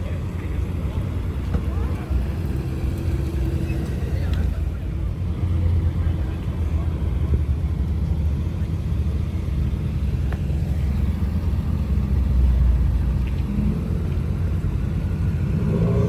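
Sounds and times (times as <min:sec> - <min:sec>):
car engine rumbling at low revs: 0:00.0 - 0:16.0.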